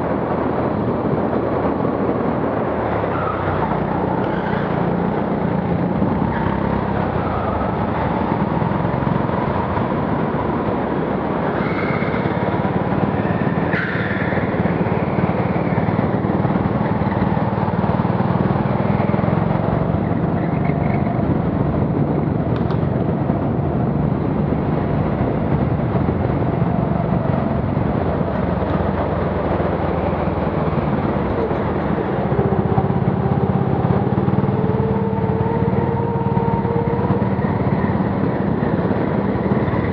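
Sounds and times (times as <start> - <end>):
go-kart motor droning: 0.0 - 39.9.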